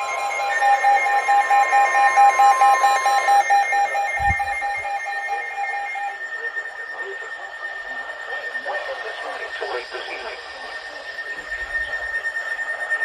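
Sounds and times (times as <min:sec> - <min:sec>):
faint steady high tone: 0:00.0 - 0:13.0
fast-pulsing alarm beeps: 0:00.0 - 0:13.0
steady warning tone: 0:00.0 - 0:13.0.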